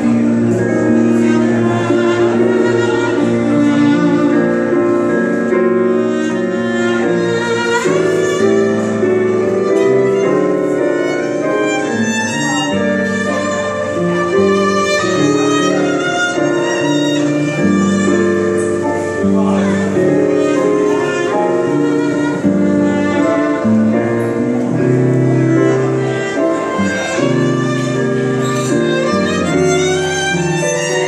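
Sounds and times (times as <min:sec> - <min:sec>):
jazz violin melody: 0:00.0 - 0:31.0
piano accompaniment: 0:00.0 - 0:31.0.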